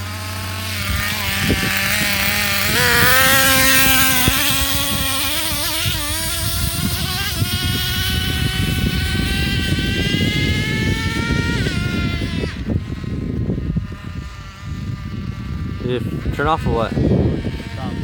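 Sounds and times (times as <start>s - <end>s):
small nitro engine whining: 0.0s - 18.0s.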